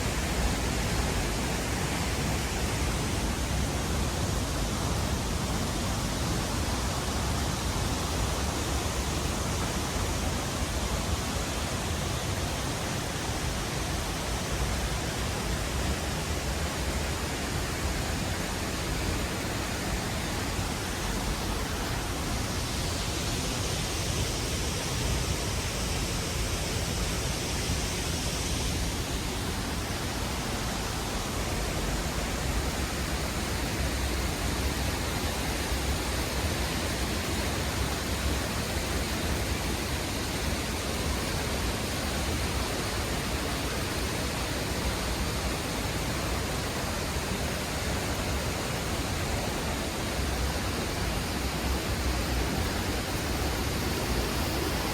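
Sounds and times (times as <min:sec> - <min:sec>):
waterfall roaring: 0:00.0 - 0:54.9.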